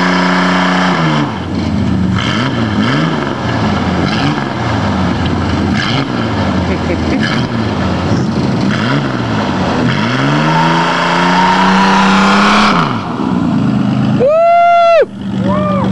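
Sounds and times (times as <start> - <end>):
engine revving: 0.0 - 15.9.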